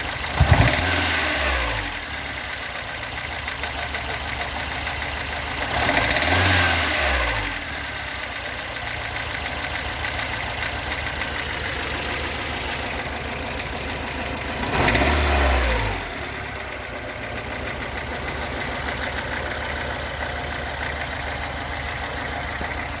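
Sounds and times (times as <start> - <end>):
engine revving: 0.0 - 2.7, 5.4 - 8.1, 9.3 - 23.0
engine idling roughly with knocking: 0.0 - 23.0.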